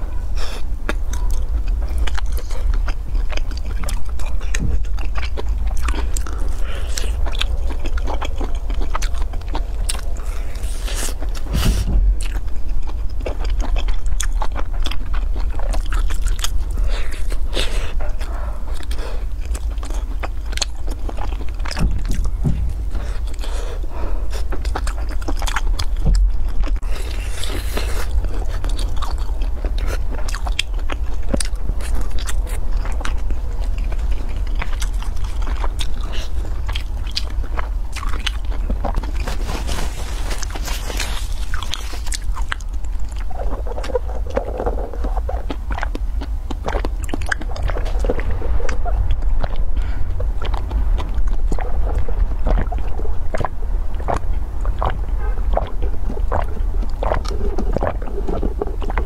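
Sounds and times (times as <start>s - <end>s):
crunchy food chewing: 0.0s - 59.0s
steady low hum: 0.0s - 59.0s.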